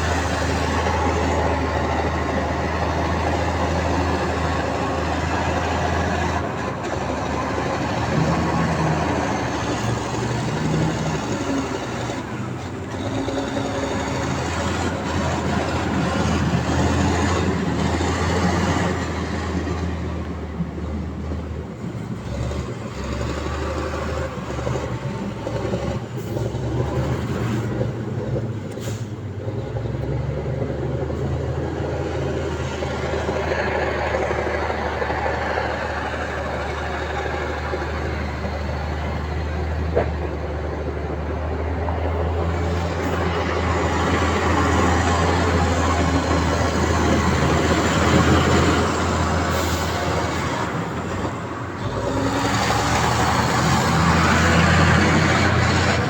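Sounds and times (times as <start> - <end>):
heavy diesel machinery engine drone: 0.0 - 56.0.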